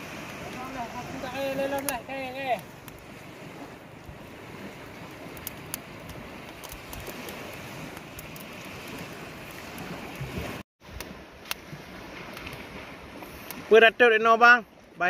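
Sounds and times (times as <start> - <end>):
fire crackling and popping: 0.0 - 13.7.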